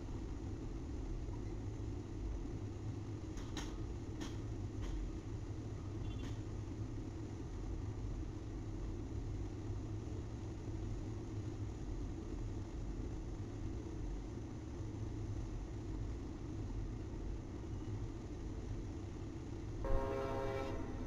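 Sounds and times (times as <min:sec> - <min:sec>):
engines and machinery rumbling: 0:00.0 - 0:21.0.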